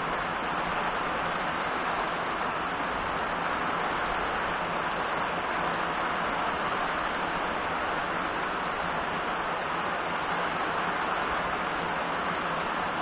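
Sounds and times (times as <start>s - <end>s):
heavy rain on road and foliage: 0.0s - 13.0s.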